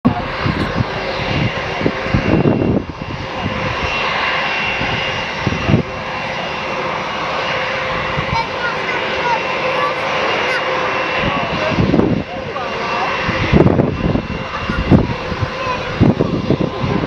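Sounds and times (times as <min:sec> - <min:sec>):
jet engines roaring with fan whine: 0:00.0 - 0:17.0
wind buffeting microphone: 0:00.0 - 0:17.0.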